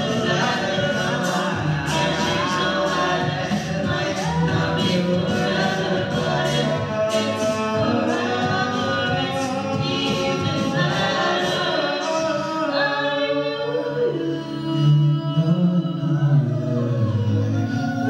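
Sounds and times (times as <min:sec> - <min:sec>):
a cappella group singing: 0:00.0 - 0:18.0.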